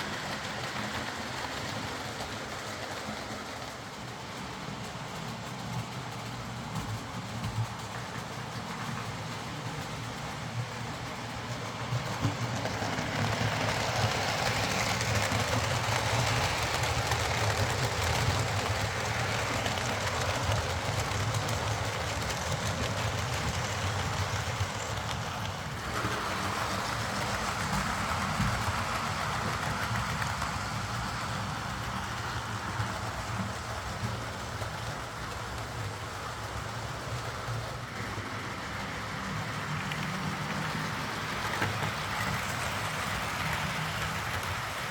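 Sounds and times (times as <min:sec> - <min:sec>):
wheels rattling on rail: 0:00.0 - 0:44.9.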